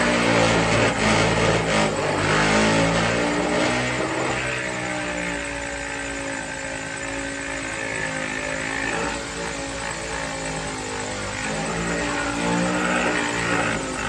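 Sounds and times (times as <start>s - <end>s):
power sander motor drone: 0.0s - 14.0s.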